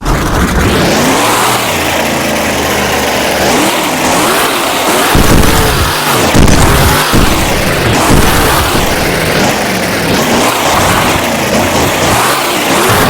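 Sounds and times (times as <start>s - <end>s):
heavy low rumbles: 0.0s - 13.0s
truck engine revving: 0.0s - 13.0s.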